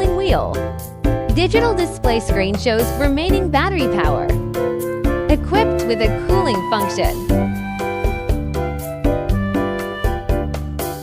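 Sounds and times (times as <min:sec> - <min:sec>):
upbeat piano tune over beat: 0:00.0 - 0:11.0.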